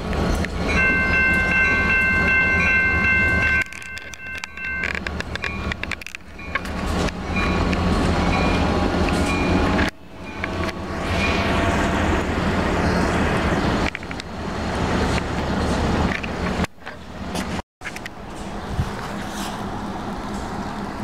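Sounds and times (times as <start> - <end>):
locomotive engine rumble: 0.0 - 21.0.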